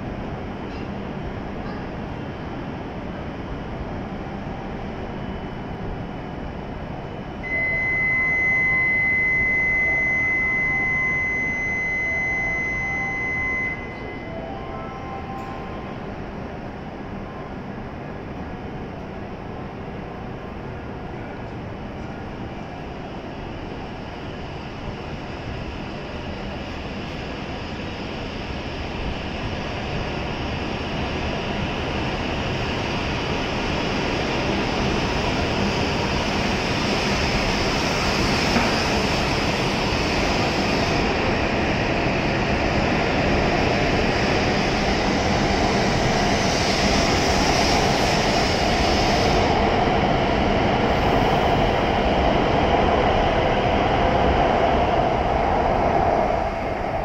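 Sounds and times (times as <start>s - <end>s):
high-speed train rushing past: 0.0s - 57.0s.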